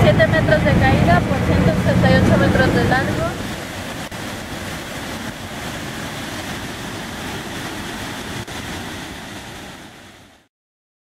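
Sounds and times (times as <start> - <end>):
waterfall roaring: 0.0 - 10.5.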